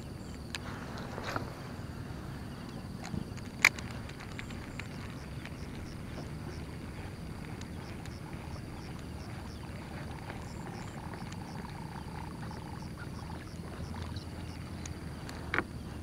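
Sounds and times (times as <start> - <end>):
faint high chirps and ticks: 0.0 - 16.0
low outdoor rumble: 0.0 - 16.0.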